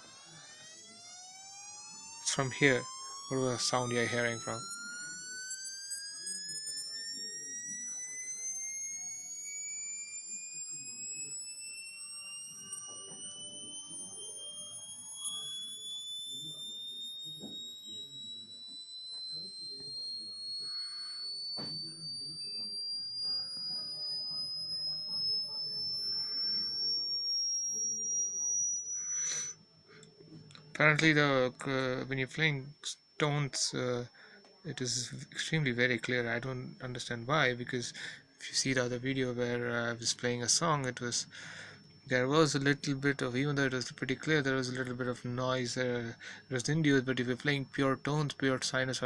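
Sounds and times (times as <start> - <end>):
rising sine-wave tone: 0.0 - 49.0.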